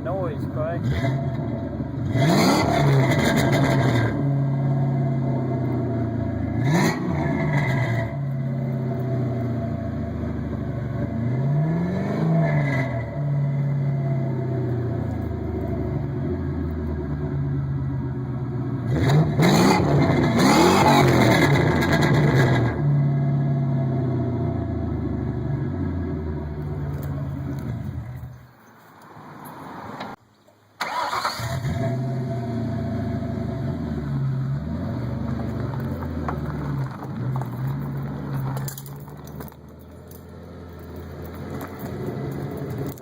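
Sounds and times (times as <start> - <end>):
car engine idling and revving: 0.0 - 28.6, 30.8 - 43.0.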